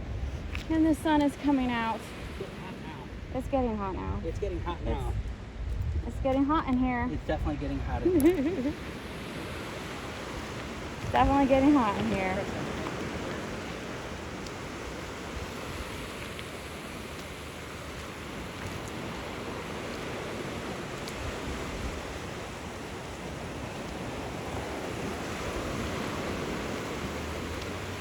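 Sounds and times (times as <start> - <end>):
surf washing onto beach: 0.0 - 5.6, 6.3 - 28.0
wind buffeting microphone: 0.0 - 28.0.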